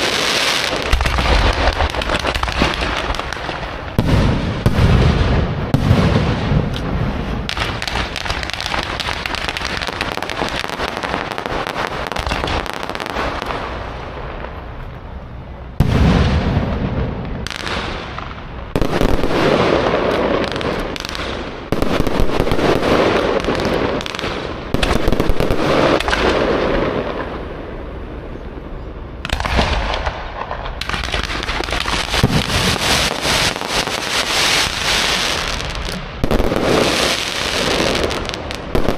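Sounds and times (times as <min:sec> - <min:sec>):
fireworks crackling and banging: 0:00.0 - 0:38.9.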